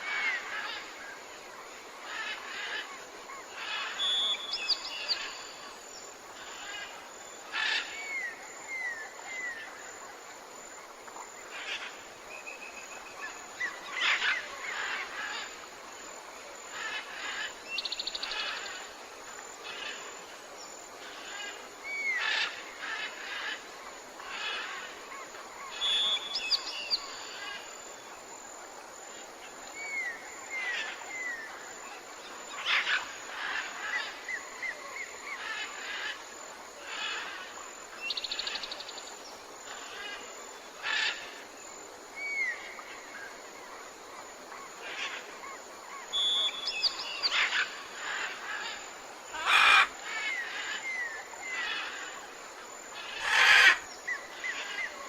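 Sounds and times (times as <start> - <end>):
faint steady hiss: 0.0 - 55.0
forest birds calling: 2.0 - 10.0, 11.1 - 15.7, 16.7 - 20.2, 21.0 - 28.1, 29.4 - 43.8, 44.4 - 55.0.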